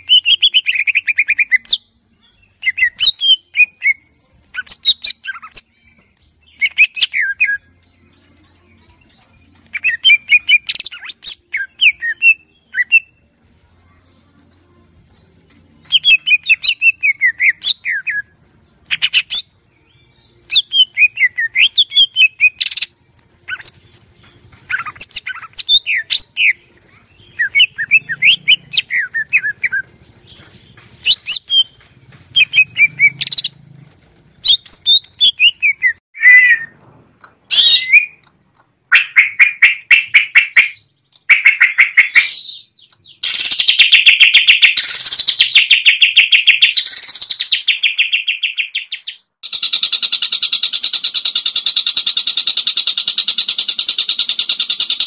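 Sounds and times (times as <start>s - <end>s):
bird singing chattering song: 0.0s - 14.8s, 15.6s - 33.6s, 34.4s - 36.7s, 37.4s - 55.0s.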